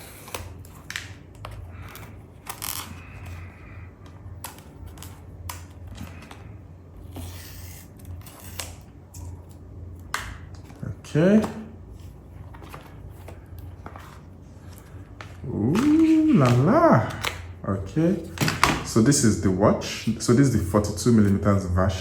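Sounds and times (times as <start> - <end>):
packaging clicks and rustles: 0.0 - 7.2, 7.9 - 19.0
low steady hum: 0.0 - 22.0.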